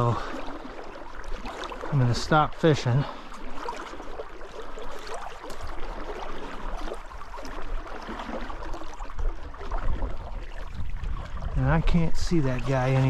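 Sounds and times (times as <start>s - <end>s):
stream water gurgling: 0.0s - 13.0s.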